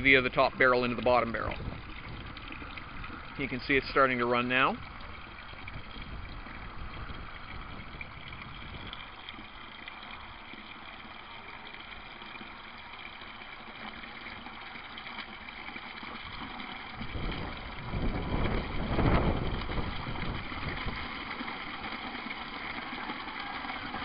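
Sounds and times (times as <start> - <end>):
water pouring into bucket: 0.0 - 24.0.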